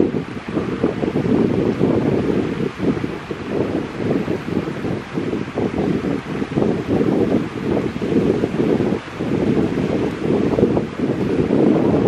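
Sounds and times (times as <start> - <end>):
flowing river water: 0.0 - 12.0
wind buffeting microphone: 0.0 - 12.0.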